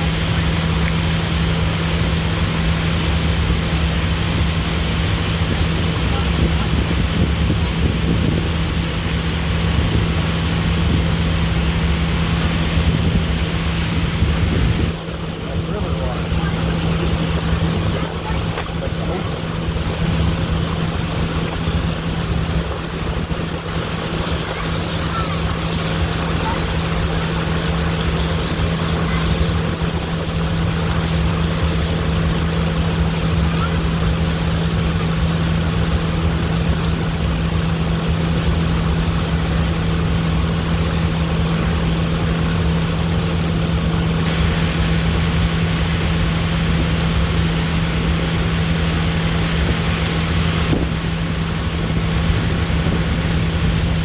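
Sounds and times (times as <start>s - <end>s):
boat motor droning: 0.0s - 54.0s
wind and water rushing: 0.0s - 54.0s.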